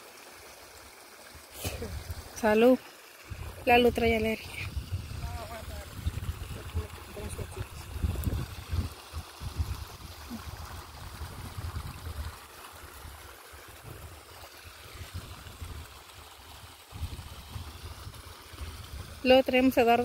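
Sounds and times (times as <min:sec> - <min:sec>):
water trickling over rocks: 0:00.0 - 0:20.0.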